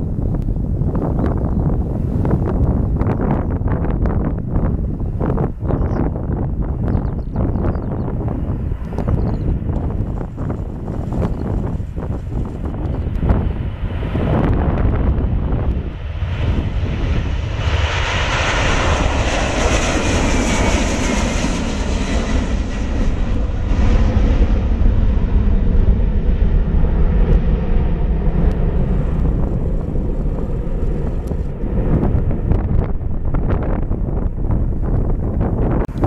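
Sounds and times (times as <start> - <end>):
jet engines roaring at takeoff: 0.0 - 36.0.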